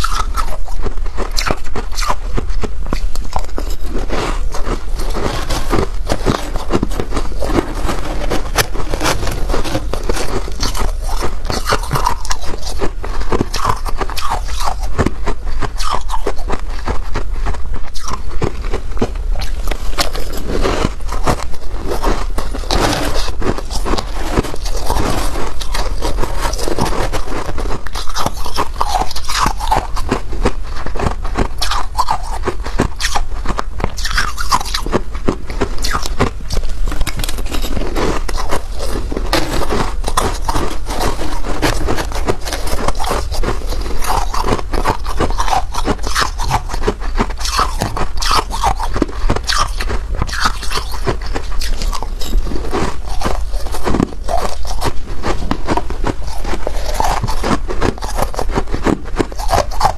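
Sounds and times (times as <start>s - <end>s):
crunching frost between teeth: 0.0s - 59.9s
frost being scraped: 0.0s - 59.9s.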